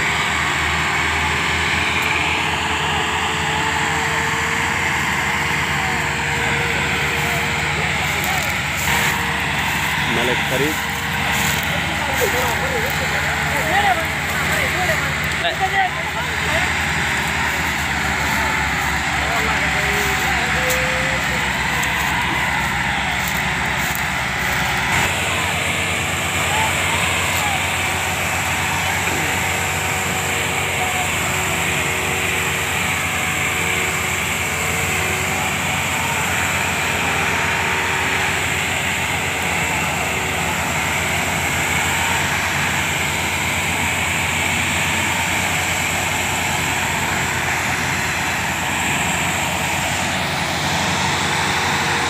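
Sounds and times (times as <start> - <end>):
tractor engines under load: 0.0 - 52.0.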